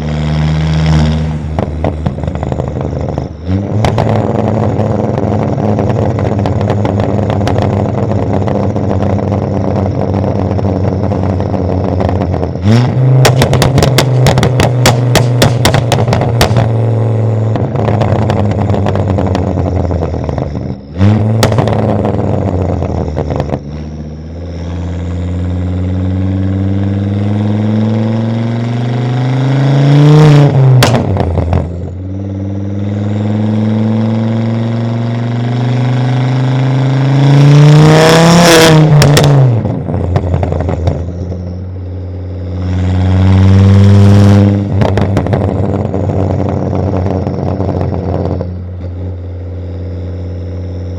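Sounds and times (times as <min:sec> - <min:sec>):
exhaust cracks: 0:00.0 - 0:28.3, 0:29.7 - 0:36.2, 0:36.8 - 0:50.9
car engine accelerating: 0:00.0 - 0:50.9.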